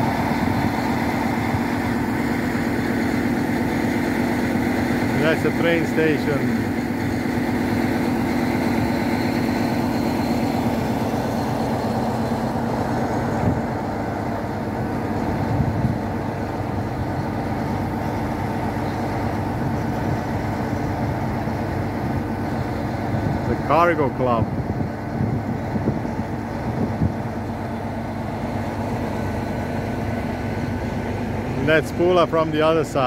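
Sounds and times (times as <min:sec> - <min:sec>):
diesel train engine idling: 0:00.0 - 0:33.0.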